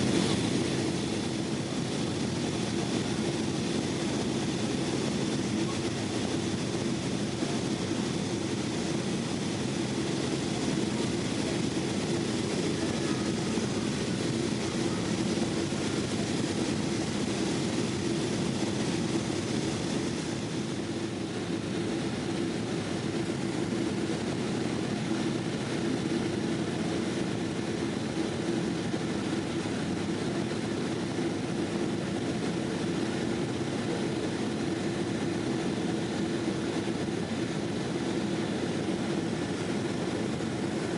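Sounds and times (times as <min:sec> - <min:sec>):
jet engine and airflow rush: 0:00.0 - 0:40.9.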